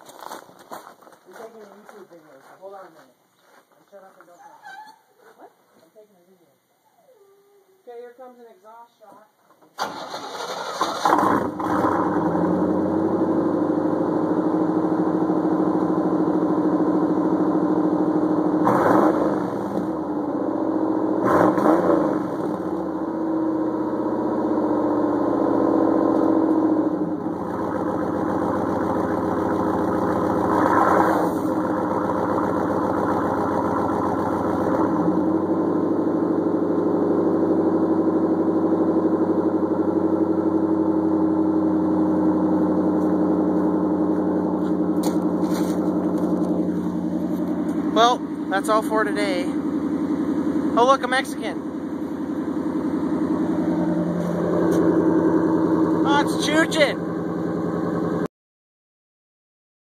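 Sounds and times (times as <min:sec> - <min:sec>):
pickup engine idling with throttle blips: 0:09.9 - 0:58.2.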